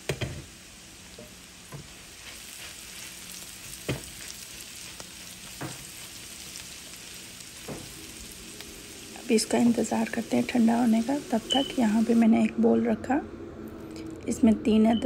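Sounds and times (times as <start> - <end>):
vegetables sizzling in a frying pan: 0.0 - 12.5.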